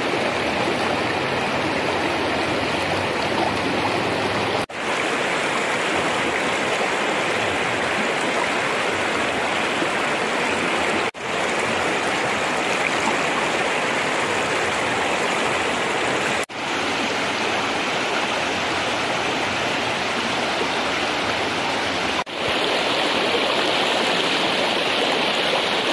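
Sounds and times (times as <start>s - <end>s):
river rushing over rocks: 0.0s - 25.9s.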